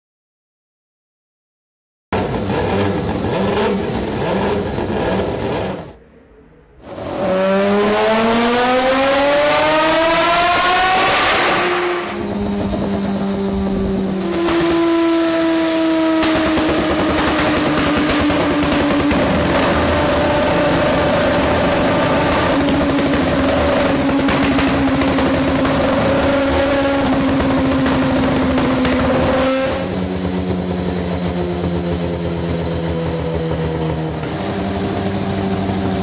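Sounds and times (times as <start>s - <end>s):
race engine revving: 2.2s - 36.0s.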